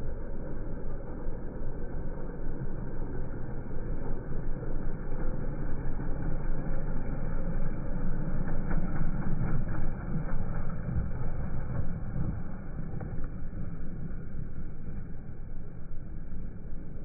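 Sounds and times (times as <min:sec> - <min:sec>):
quad engine rumbling: 0:00.0 - 0:17.0.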